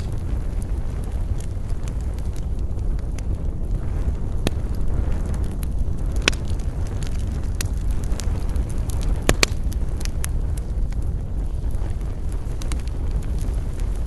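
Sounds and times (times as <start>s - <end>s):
campfire burning rush: 0.0s - 14.0s
fire crackles and pops: 0.0s - 14.0s.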